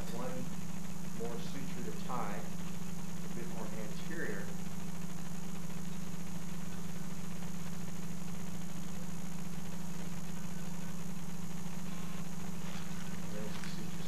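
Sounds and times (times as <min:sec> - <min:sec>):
equipment humming: 0:00.0 - 0:14.0.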